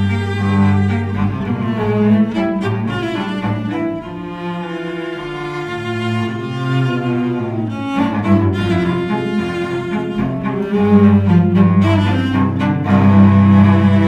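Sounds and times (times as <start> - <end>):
cello duet: 0.0 - 14.0.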